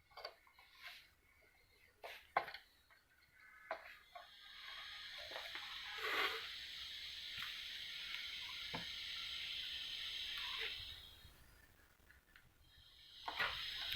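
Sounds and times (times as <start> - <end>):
faint steady hiss: 0.0 - 13.9.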